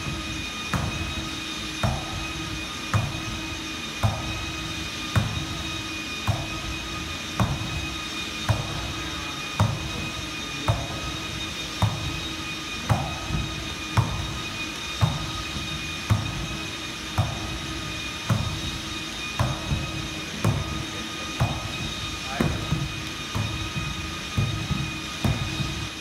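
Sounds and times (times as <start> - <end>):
treadmill motor whine: 0.0 - 26.0.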